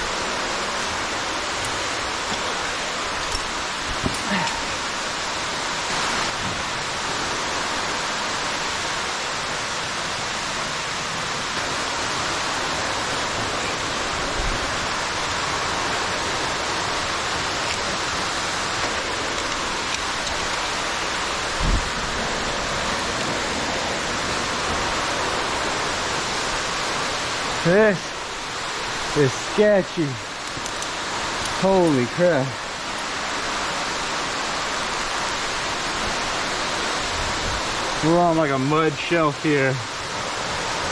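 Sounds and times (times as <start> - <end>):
underground waterfall rushing: 0.0 - 40.9.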